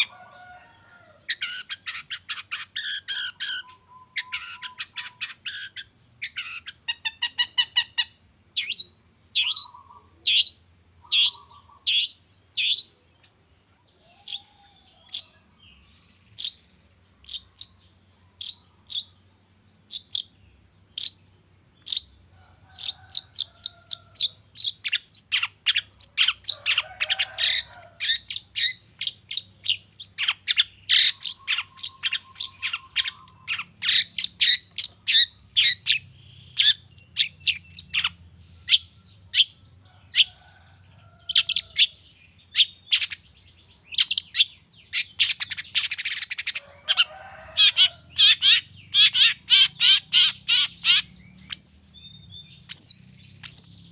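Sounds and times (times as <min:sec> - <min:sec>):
bird sharp high chirps: 0:01.3 - 0:13.3, 0:13.9 - 0:19.2, 0:19.8 - 0:22.2, 0:22.8 - 0:40.4, 0:41.2 - 0:53.9.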